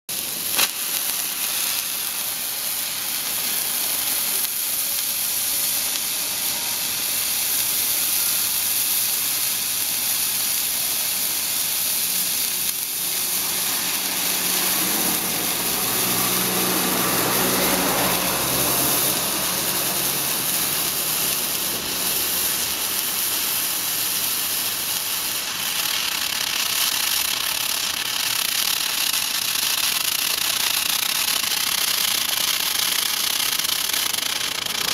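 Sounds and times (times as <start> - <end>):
firework hissing: 0.1 - 34.9.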